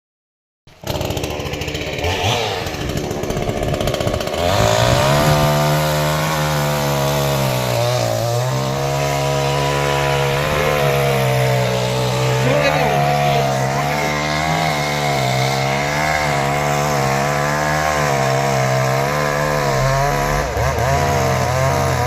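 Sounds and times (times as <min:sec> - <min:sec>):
chainsaw engine revving: 0:00.7 - 0:22.0.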